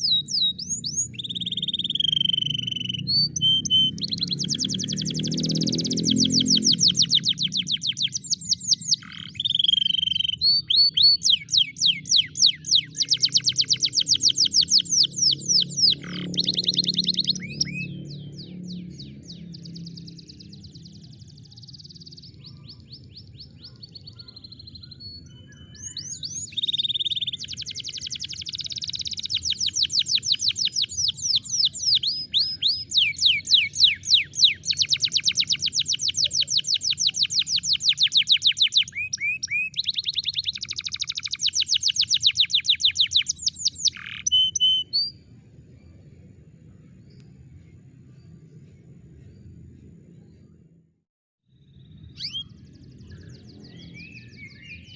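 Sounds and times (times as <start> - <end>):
canary singing trills: 0.0 - 45.3, 51.6 - 54.9.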